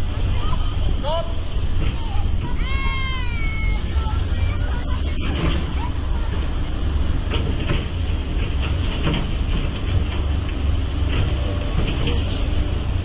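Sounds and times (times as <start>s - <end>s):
excavator diesel engine under load: 0.0s - 13.0s.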